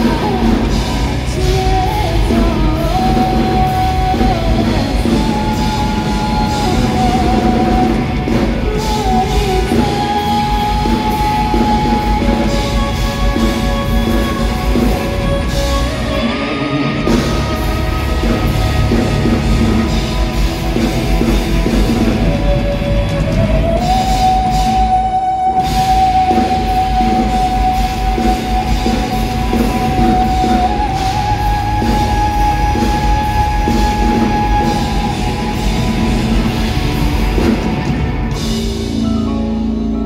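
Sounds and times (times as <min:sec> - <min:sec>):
pop-rock band playing: 0:00.0 - 0:40.0.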